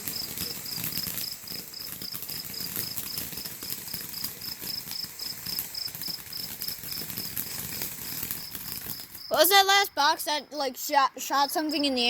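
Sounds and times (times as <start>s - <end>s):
cricket chirping: 0.0s - 10.7s.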